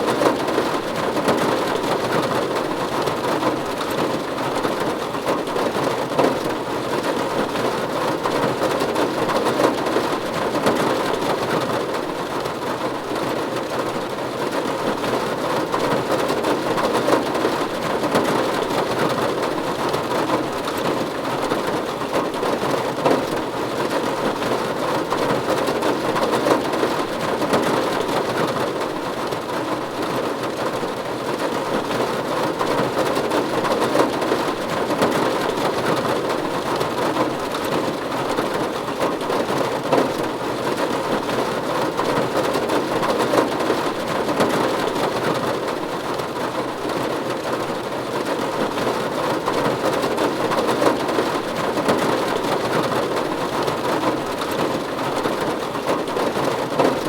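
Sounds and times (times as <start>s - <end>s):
rain falling on a roof: 0.0s - 57.0s.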